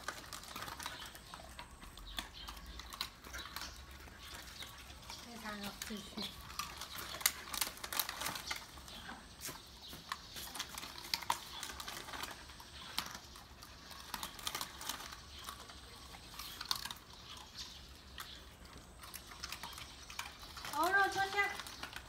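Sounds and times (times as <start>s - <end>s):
dogs chewing treats: 0.0s - 22.0s.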